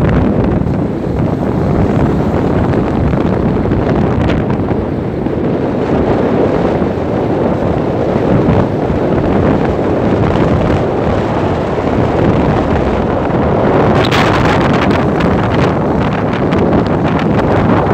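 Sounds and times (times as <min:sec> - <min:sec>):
vehicle and road noise: 0:00.0 - 0:17.9
wind buffeting microphone: 0:00.0 - 0:17.9.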